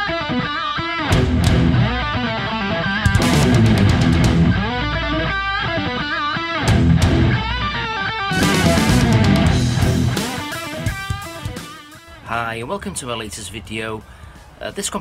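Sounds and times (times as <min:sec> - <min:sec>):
electric guitar: 0:00.0 - 0:12.2
loud rock music: 0:00.0 - 0:12.2.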